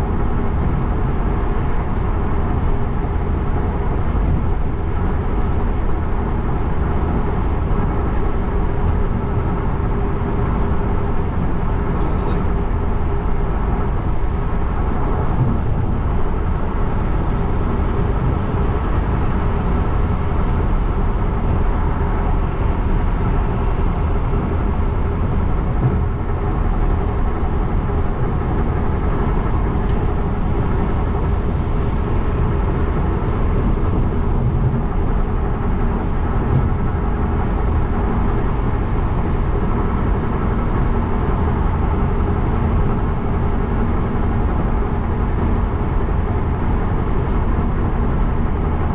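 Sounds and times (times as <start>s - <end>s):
car road noise: 0.0s - 48.9s.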